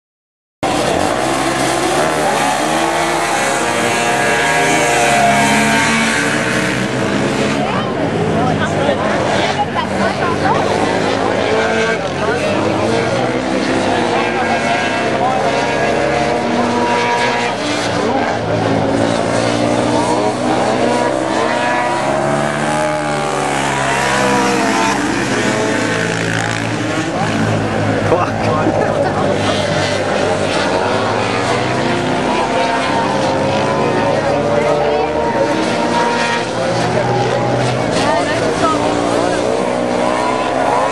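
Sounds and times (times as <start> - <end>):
quad engines revving: 0.6 - 40.9.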